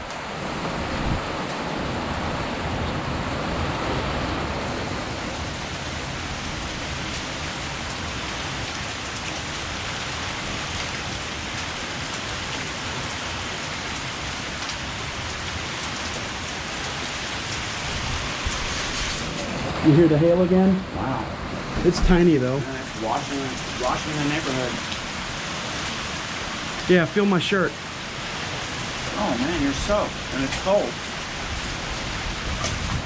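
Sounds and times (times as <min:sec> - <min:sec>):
heavy rain with hail: 0:00.0 - 0:33.0.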